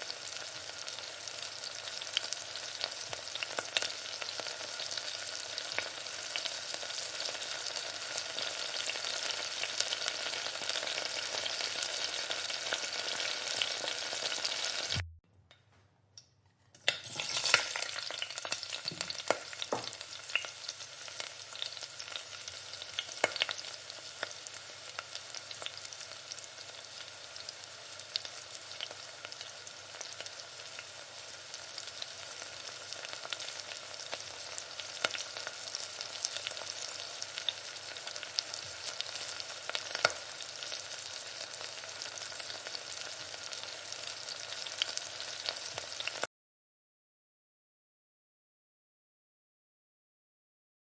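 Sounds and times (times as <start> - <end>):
chicken sizzling in a pan: 0.0 - 15.0, 16.9 - 46.3.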